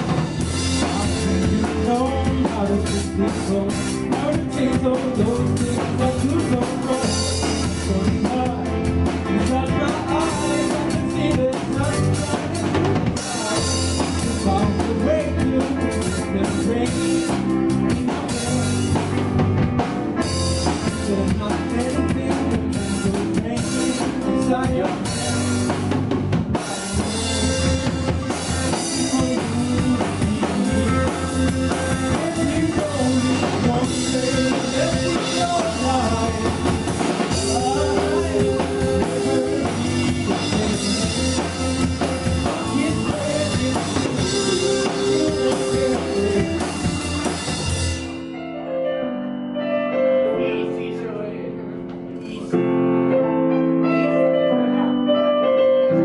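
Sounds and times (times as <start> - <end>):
drum kit hits: 0.0 - 48.3
live rock band playing: 0.0 - 56.0.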